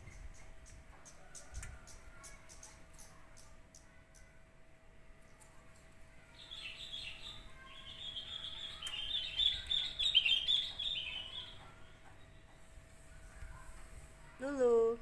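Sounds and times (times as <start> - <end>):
small birds chirping and twittering: 0.0 - 14.9.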